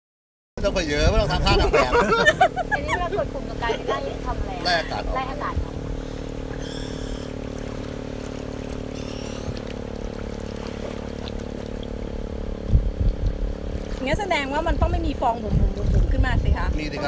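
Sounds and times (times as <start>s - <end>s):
motor humming: 0.6s - 17.0s
water trickling and lapping: 0.7s - 17.0s.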